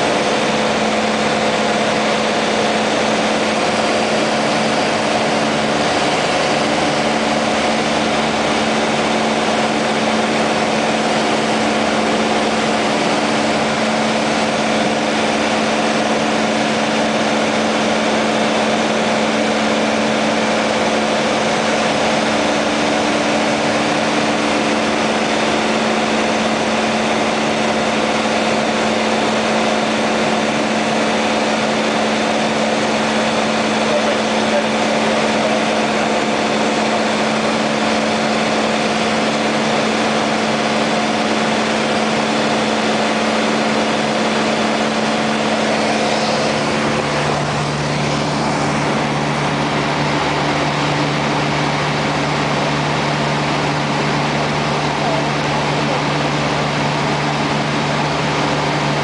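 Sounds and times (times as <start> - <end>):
airplane engine drone in cabin: 0.0 - 59.0.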